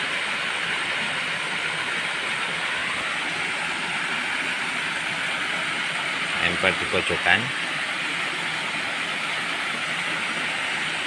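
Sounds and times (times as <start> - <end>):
night-time outdoor hiss: 0.0 - 11.0.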